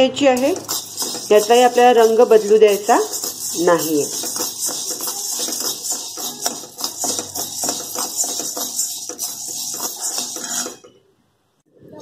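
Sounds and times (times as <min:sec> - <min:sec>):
metal spatula scraping: 0:00.0 - 0:11.0
grains rattling in a pan: 0:00.4 - 0:10.8.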